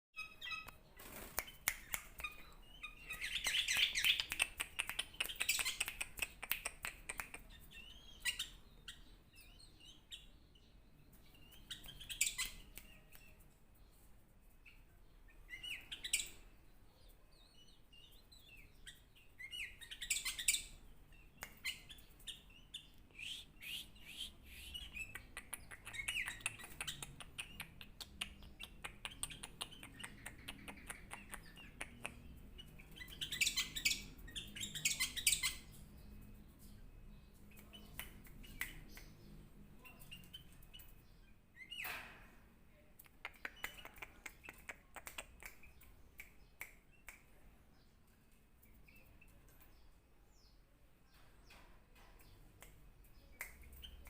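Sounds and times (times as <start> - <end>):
bird chirping: 0.2 - 54.0.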